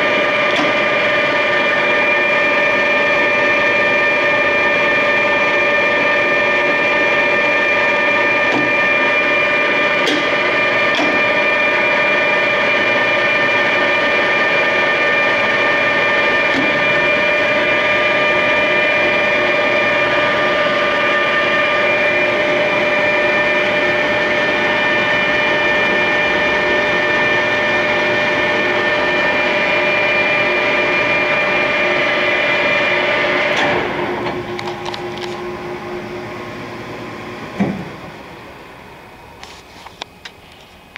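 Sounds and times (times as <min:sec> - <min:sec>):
lathe motor and gears whining: 0:00.0 - 0:40.9.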